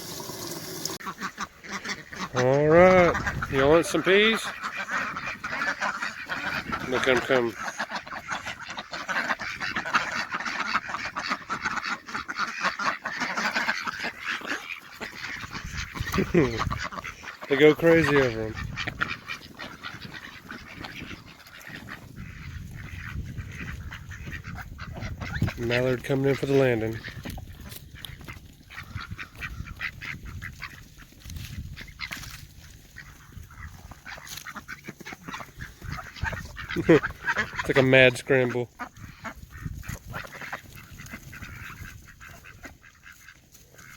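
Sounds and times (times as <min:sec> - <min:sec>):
ducks quacking: 0:00.2 - 0:43.9.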